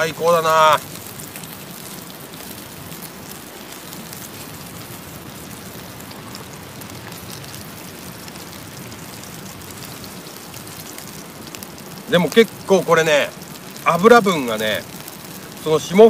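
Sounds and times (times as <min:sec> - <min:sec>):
steak sizzling in a frying pan: 0:00.0 - 0:16.0.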